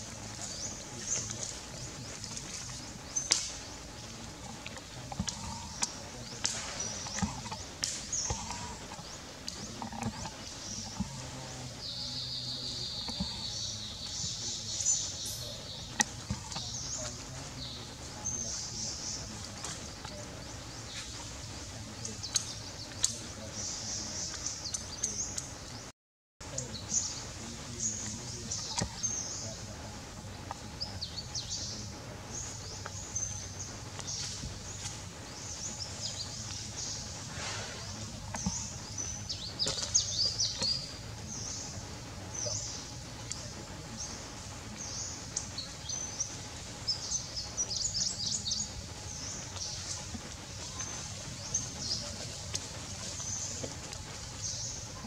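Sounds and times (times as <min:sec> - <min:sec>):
outdoor background hum: 0:00.0 - 0:55.0
wild birds chirping: 0:00.0 - 0:55.0.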